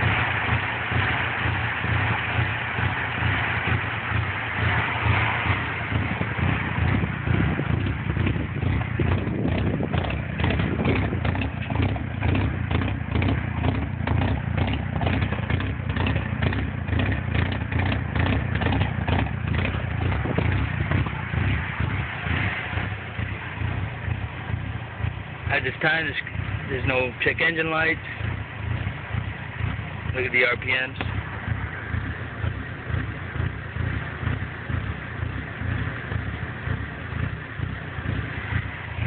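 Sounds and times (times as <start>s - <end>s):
car engine rough idle: 0.0s - 39.0s.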